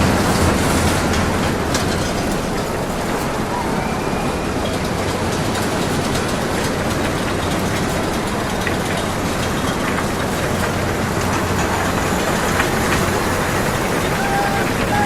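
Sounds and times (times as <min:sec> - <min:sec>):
constant hum: 0:00.0 - 0:15.0
low mechanical rumble: 0:00.0 - 0:15.0.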